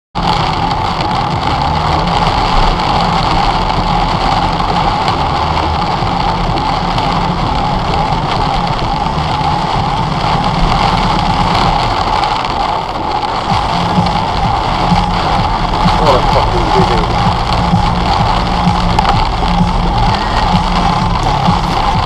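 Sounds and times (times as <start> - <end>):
car engine and tyre noise: 0.1 - 22.0.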